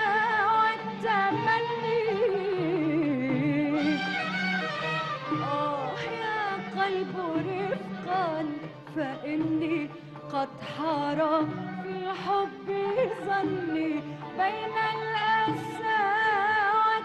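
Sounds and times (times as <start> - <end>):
orchestra with strings playing: 0.0 - 17.0.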